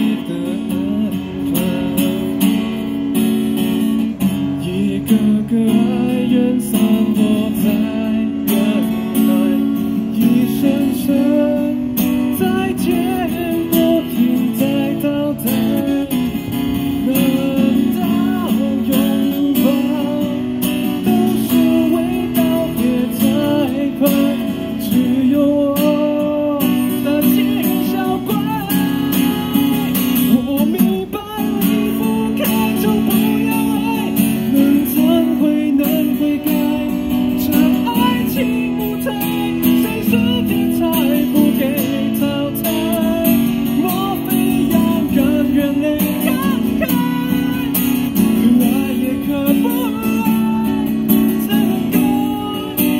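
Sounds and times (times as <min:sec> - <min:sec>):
man singing into microphone: 0:00.0 - 0:02.9, 0:04.1 - 0:52.9
acoustic guitar: 0:00.0 - 0:52.9.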